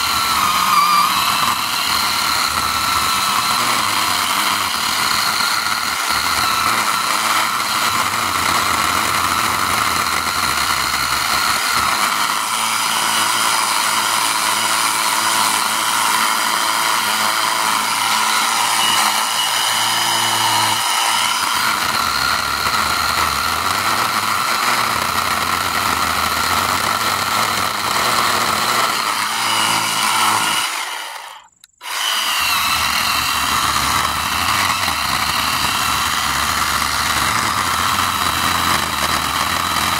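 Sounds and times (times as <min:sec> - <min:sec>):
electric chainsaw cutting wood: 0:00.0 - 0:39.9.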